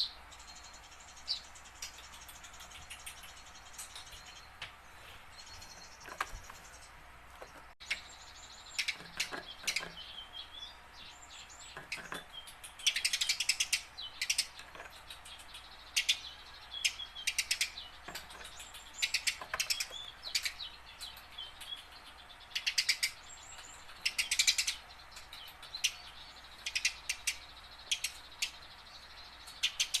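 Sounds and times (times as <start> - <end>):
sparrow chirping: 0.0 - 30.0.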